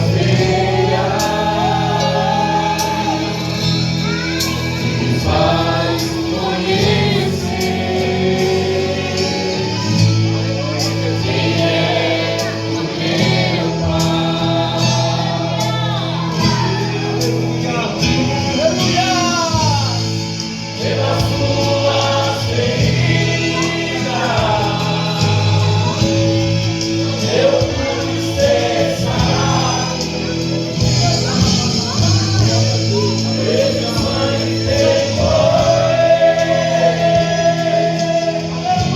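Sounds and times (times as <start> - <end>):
choir voices: 0.0 - 38.9
gospel song vocals: 0.0 - 38.9
sustained keyboard chords: 0.0 - 38.9.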